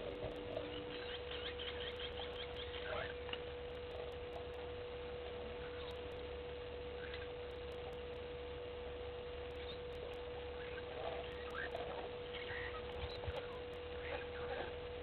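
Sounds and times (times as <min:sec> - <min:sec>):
constant high-pitched hum: 0:00.0 - 0:15.0
steady hiss: 0:00.0 - 0:15.0.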